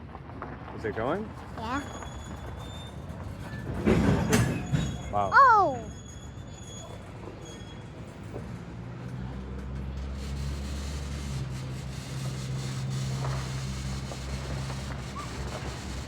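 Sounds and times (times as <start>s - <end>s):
freight train rumbling past: 0.8s - 16.0s.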